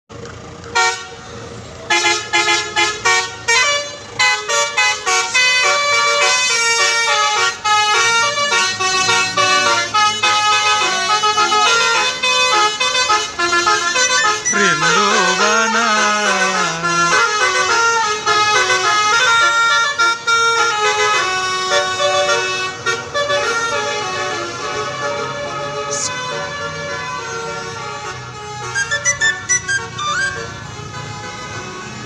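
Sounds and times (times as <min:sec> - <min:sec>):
musical bus horn melody: 0:00.7 - 0:32.0.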